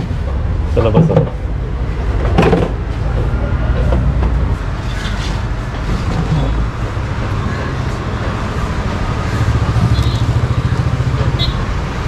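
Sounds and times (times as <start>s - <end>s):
traffic rumble: 0.0s - 12.0s
urban noise: 0.0s - 12.0s.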